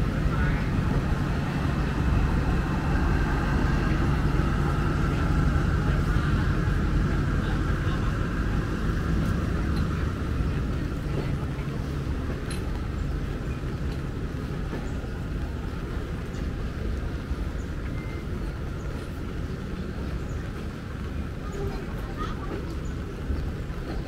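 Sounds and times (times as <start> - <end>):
train carriages rumbling past: 0.0 - 24.0.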